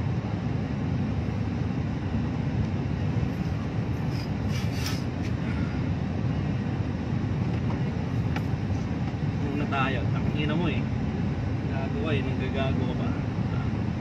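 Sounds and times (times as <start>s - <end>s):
road and engine rumble in cabin: 0.0s - 14.0s.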